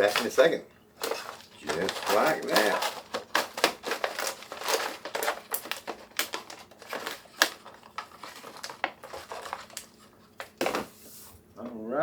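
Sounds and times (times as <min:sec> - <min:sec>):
plastic pouches crinkling: 0:00.0 - 0:11.0.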